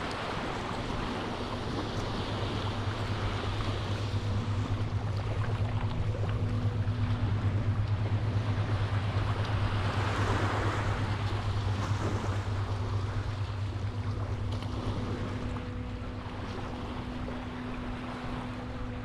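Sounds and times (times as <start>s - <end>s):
faint low hum: 0.0s - 19.0s
small waves washing onto beach: 0.0s - 19.0s
wind rumbling on microphone: 0.0s - 19.0s.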